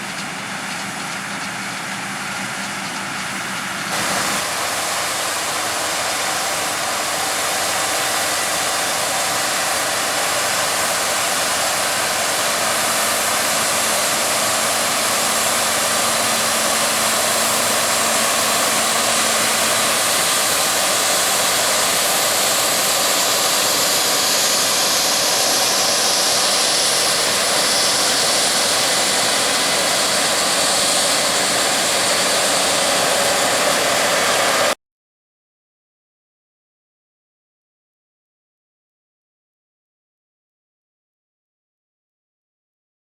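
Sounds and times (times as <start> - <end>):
harvest machinery running: 0.0 - 34.8.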